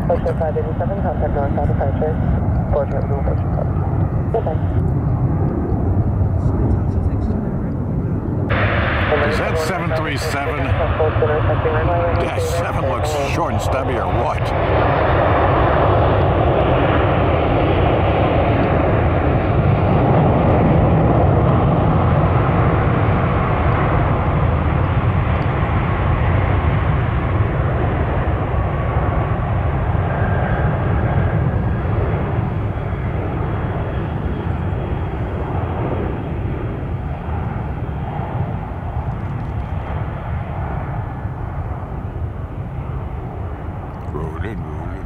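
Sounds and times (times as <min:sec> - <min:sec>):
jet engines at takeoff: 0:00.0 - 0:45.0.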